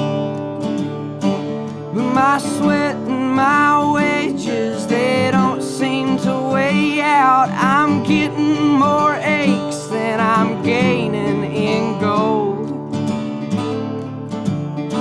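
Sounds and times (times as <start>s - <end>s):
country acoustic guitar music: 0.0s - 15.0s.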